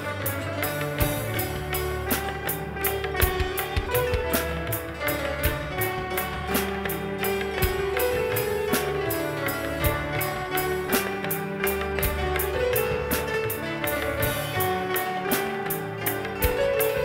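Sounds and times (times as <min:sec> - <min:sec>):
sitars: 0:00.0 - 0:17.0
tabla beat: 0:00.0 - 0:17.0
violins: 0:00.0 - 0:17.0.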